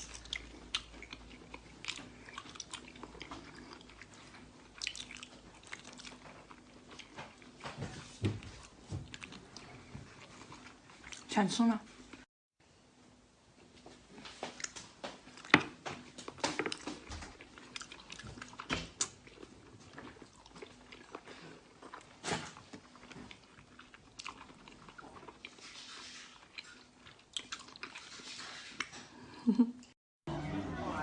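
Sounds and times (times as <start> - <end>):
crunchy chewing: 0.0 - 7.6, 8.6 - 11.3, 14.6 - 29.0.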